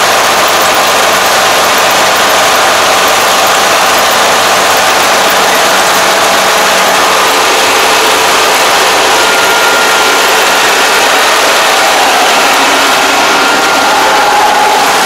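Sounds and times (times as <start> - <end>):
diesel engine running: 0.0 - 15.0
faint high whine: 0.0 - 15.0.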